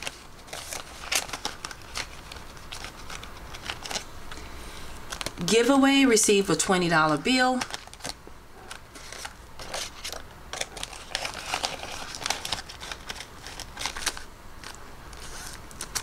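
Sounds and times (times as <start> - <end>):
paper crinkling and rustling: 0.0 - 4.4, 7.4 - 16.0.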